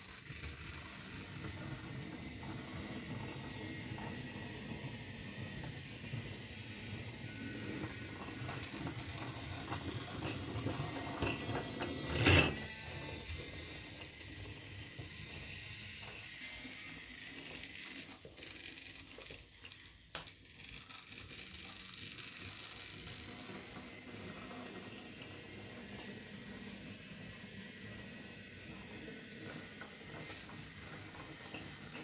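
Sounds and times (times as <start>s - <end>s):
toy train mechanism clicking and whirring: 0.0s - 32.0s.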